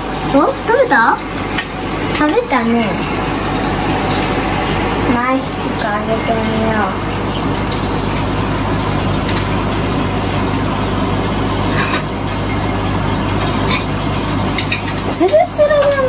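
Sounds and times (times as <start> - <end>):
aquarium filter pump hum: 0.0 - 16.0
rushing water: 0.0 - 16.0.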